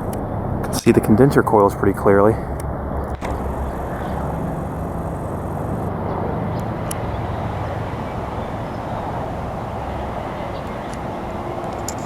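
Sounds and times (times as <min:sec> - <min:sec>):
constant rushing noise: 0:00.0 - 0:12.0
low mechanical hum: 0:00.0 - 0:12.0.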